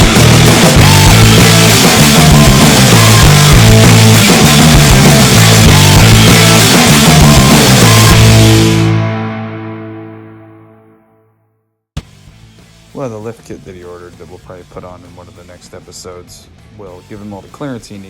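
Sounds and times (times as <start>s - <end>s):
distorted hard rock music: 0.0s - 11.0s, 12.0s - 18.0s.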